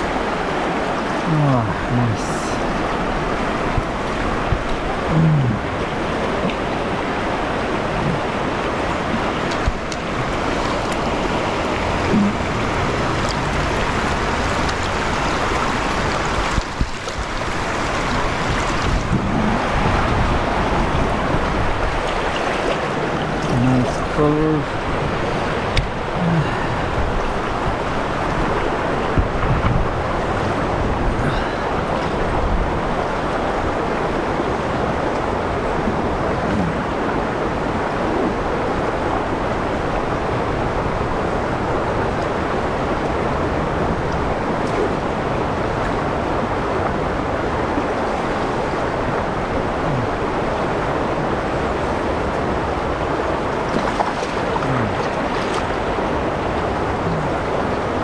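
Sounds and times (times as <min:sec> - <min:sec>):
river water rushing over riffle: 0:00.0 - 0:58.0.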